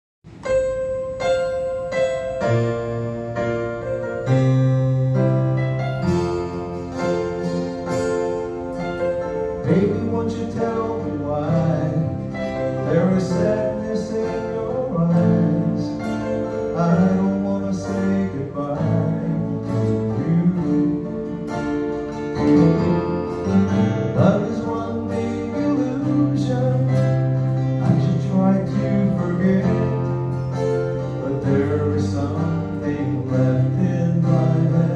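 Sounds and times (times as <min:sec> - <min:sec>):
acoustic guitars strumming: 0:00.3 - 0:34.9
keyboard chords: 0:00.3 - 0:34.9.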